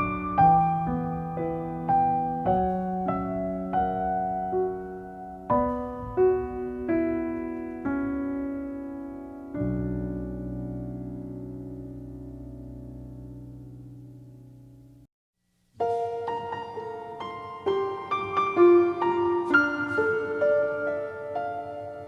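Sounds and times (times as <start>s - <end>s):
slow piano music: 0.0s - 15.1s, 15.8s - 22.0s.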